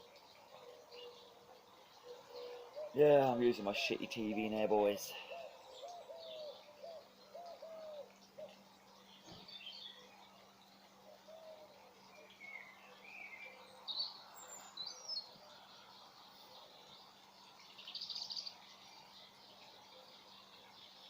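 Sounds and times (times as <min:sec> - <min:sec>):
birds chirping faintly: 0:00.0 - 0:21.0.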